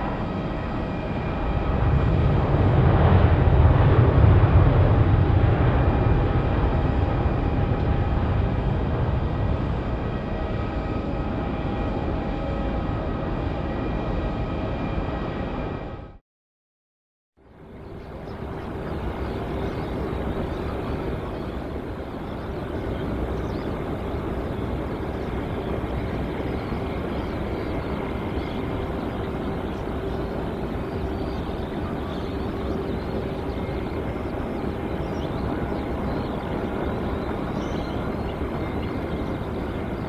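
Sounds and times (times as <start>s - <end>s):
constant low whine: 0.0s - 16.2s, 17.4s - 40.0s
jet engines running: 0.0s - 16.2s, 17.5s - 40.0s.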